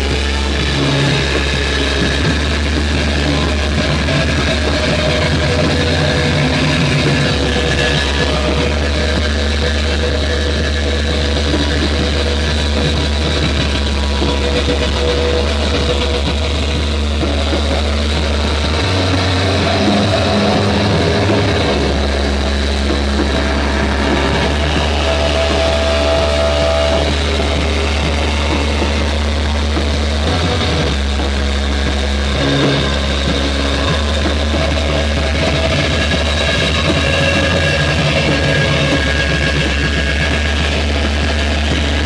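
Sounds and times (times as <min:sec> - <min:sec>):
band playing droning rock: 0:00.0 - 0:42.0.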